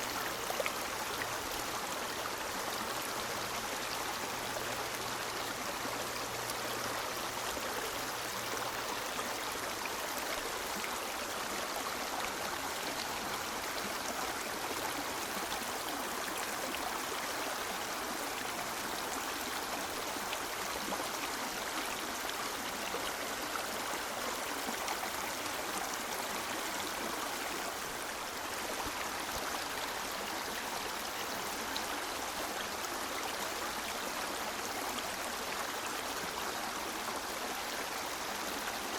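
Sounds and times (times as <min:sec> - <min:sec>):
river flowing: 0:00.0 - 0:38.9
water splashes and trickles: 0:00.0 - 0:38.9.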